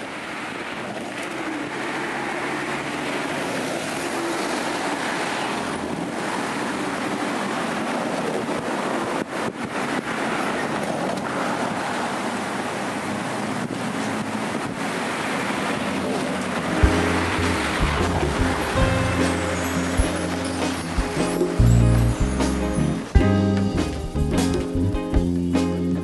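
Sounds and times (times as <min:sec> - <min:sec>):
street traffic passing: 0:00.0 - 0:26.0.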